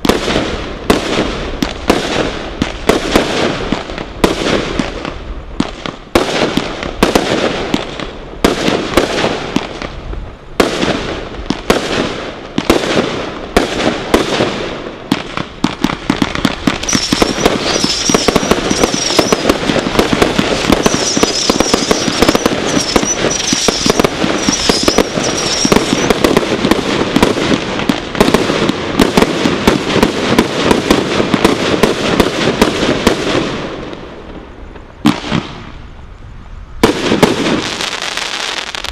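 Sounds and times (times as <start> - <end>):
firework bangs: 0.0 - 34.4, 35.0 - 35.8, 36.8 - 38.9
dense firework crackling: 0.0 - 36.0, 36.8 - 38.9.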